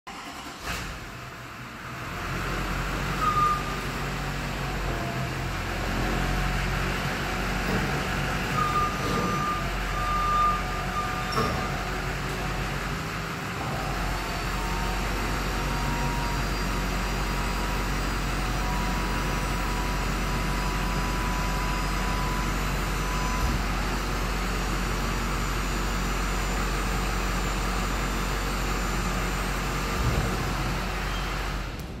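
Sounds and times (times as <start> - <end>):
diesel engine idling: 0.1 - 32.0.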